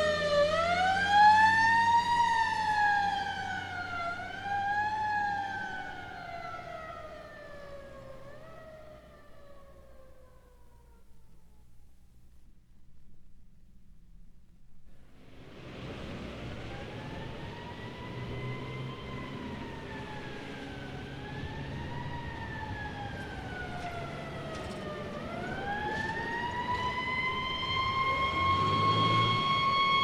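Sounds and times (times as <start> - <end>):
emergency vehicle siren wailing: 0.0 - 11.5, 15.5 - 30.0
low traffic rumble: 0.0 - 30.0.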